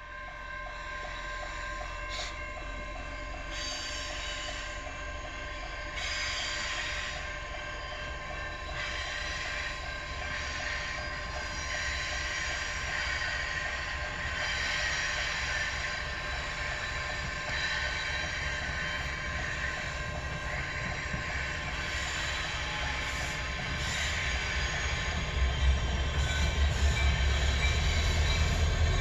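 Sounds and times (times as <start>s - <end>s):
faint steady tones: 0.0s - 29.0s
train rolling past: 0.0s - 29.0s.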